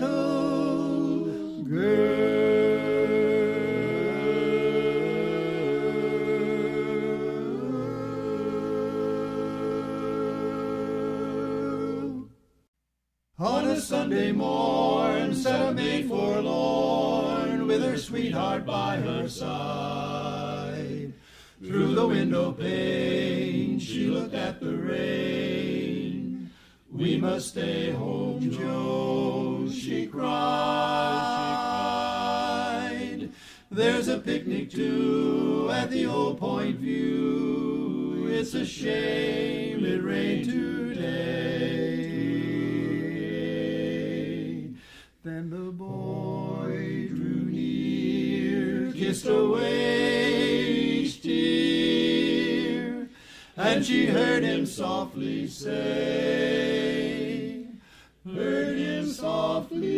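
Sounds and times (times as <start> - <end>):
barbershop quartet singing: 0.0 - 12.4, 13.4 - 59.9.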